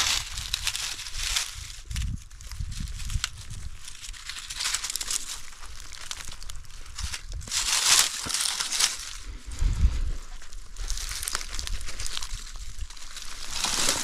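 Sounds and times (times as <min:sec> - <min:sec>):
dry leaves crackling and rustling: 0:00.0 - 0:14.0.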